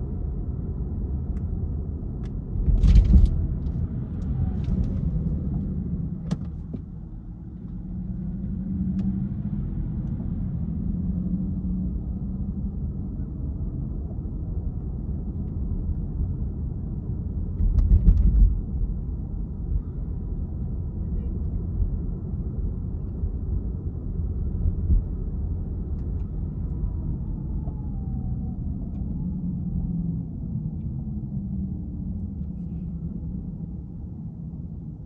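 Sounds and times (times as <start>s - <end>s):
muffled car rumble from cabin: 0.0s - 35.0s.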